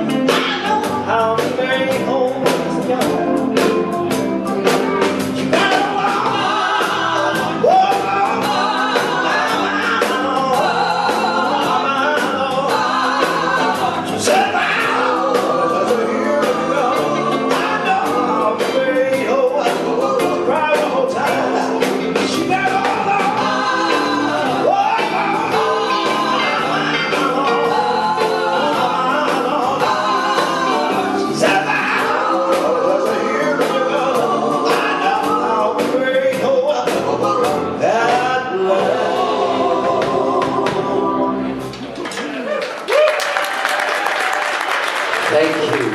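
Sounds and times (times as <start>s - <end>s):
song with singing and beat: 0.0s - 45.9s.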